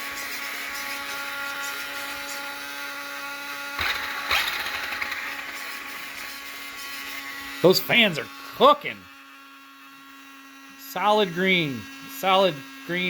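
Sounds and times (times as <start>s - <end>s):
small cooling fans whirring: 0.0s - 13.0s.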